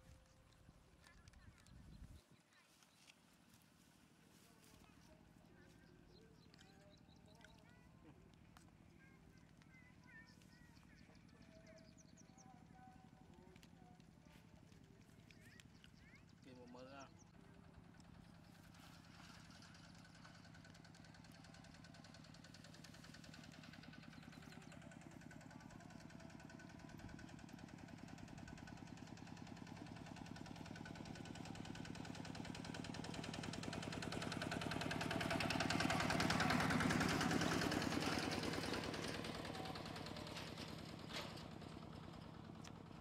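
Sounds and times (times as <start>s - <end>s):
vehicle engine running: 0.0s - 43.0s.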